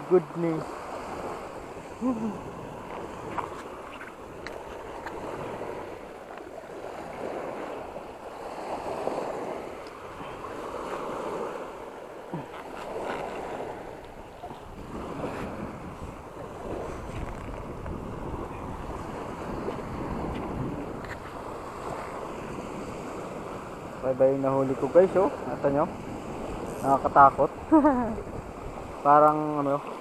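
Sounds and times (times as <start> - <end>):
surf washing onto beach: 0.0 - 30.0
wind buffeting microphone: 0.2 - 30.0.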